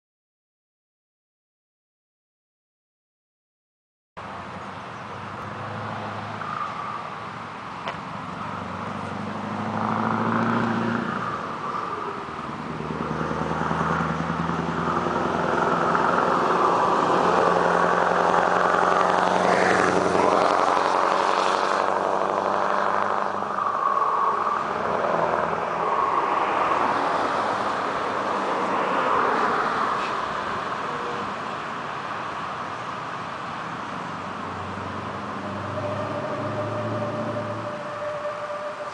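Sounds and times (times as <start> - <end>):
diesel truck passing: 4.2 - 38.9.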